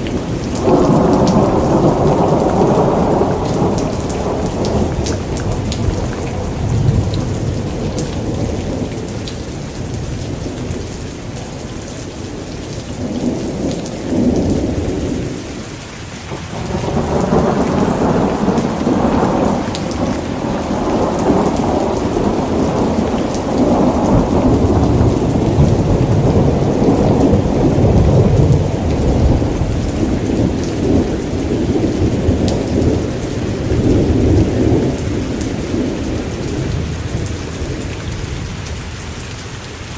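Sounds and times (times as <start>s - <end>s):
thunder rumbling: 0.0s - 11.6s, 16.3s - 38.7s
heavy rain: 0.0s - 39.9s.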